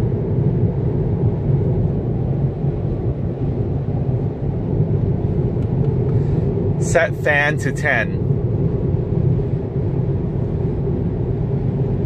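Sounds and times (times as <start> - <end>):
road and tyre noise in car: 0.0 - 12.0.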